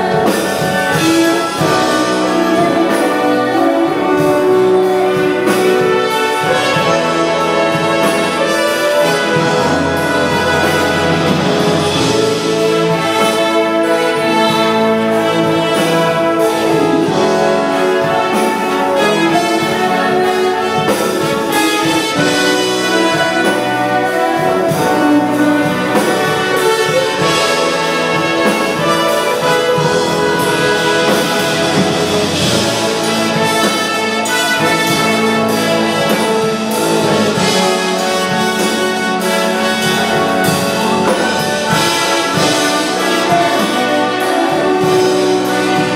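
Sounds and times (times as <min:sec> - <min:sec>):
wind band playing: 0:00.0 - 0:45.9.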